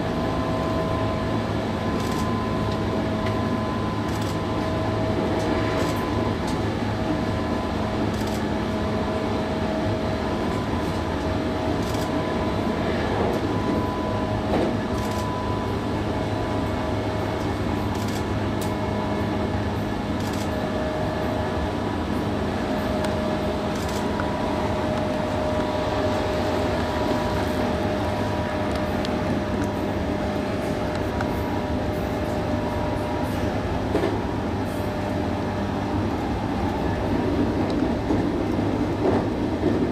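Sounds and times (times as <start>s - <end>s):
steady whine: 0.0s - 39.2s
train wheels rumbling on rail: 0.0s - 39.9s.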